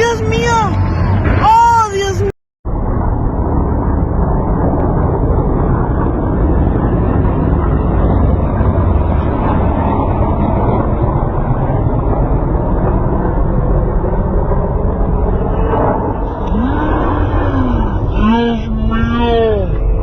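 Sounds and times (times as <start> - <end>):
aircraft engines droning overhead: 0.0 - 20.0.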